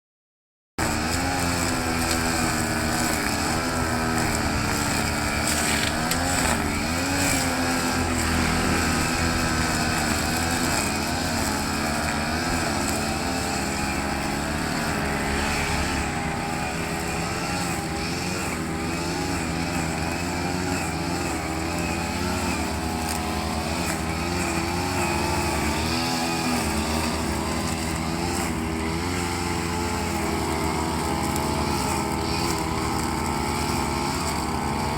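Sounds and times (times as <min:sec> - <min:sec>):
brush cutter engine running: 0:00.8 - 0:34.9.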